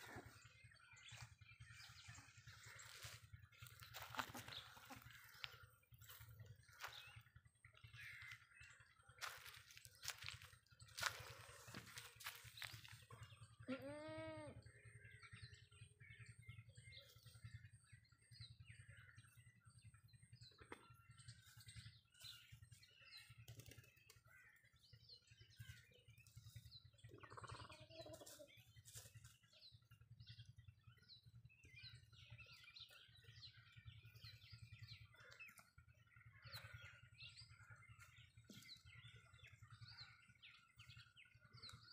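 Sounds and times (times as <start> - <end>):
low steady hum: 0.0 - 41.9
small birds chirping: 0.0 - 41.9.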